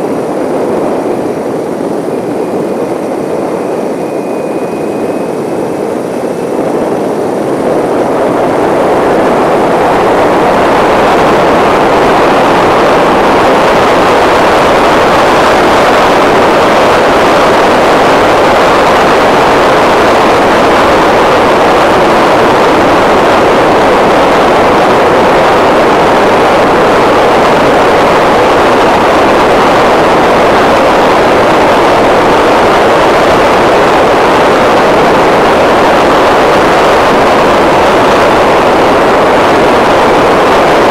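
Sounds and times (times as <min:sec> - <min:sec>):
wind rushing on microphone: 0:00.0 - 0:40.9.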